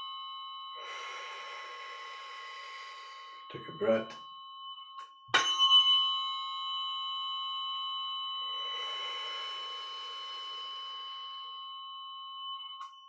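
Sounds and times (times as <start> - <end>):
metal chime ringing: 0.8 - 13.0.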